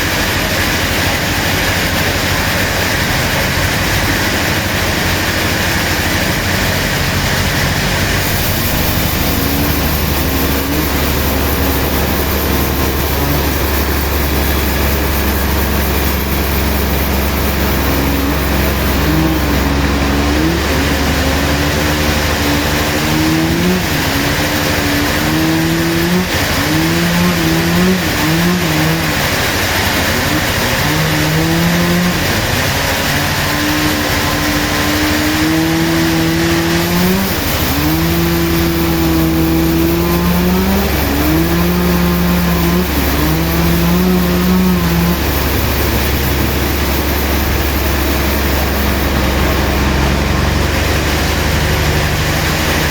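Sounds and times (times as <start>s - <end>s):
sawmill machinery running: 0.0s - 52.9s.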